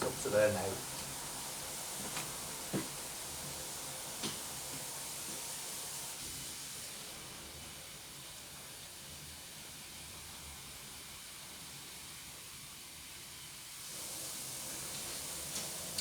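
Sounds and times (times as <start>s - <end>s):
water filling washing machine: 0.0s - 16.0s.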